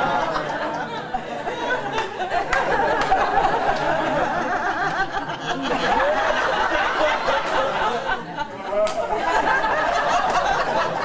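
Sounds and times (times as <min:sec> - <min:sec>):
audience laughing and chattering: 0:00.0 - 0:11.0.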